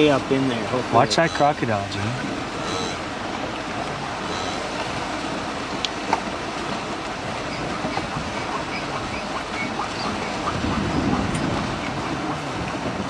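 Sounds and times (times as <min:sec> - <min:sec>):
herd of hooves rumbling: 0:00.8 - 0:13.0.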